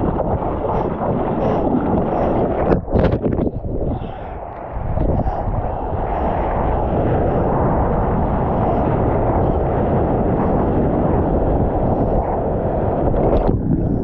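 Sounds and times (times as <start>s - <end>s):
water washing over microphone: 0.0s - 14.0s
wind buffeting microphone: 0.0s - 14.0s.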